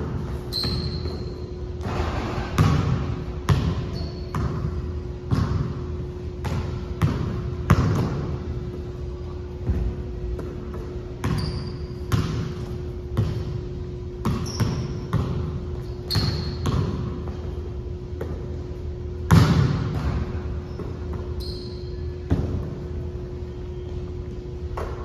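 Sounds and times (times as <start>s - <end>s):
basketball bouncing on gym floor: 0.0s - 25.0s
sneaker squeaks: 0.0s - 25.0s
steady hum: 0.0s - 25.0s.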